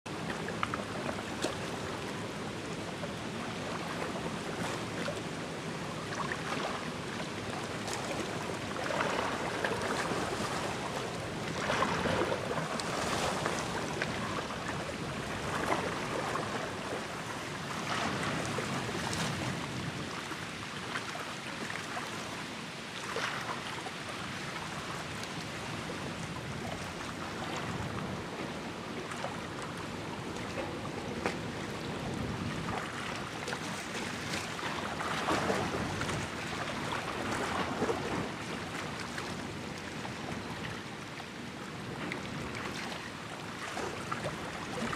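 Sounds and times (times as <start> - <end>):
wind: 0.0 - 44.9
small waves on water: 0.1 - 44.9.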